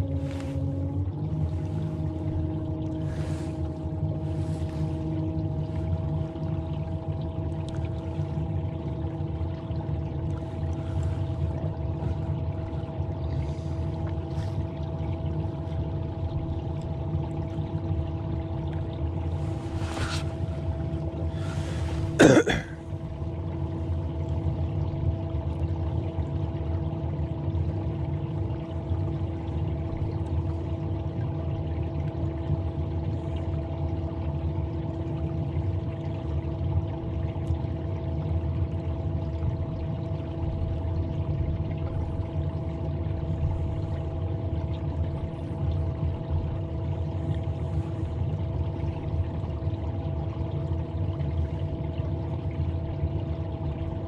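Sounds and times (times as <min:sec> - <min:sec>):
boat motor rumbling: 0:00.0 - 0:54.0
water lapping along hull: 0:00.0 - 0:54.0.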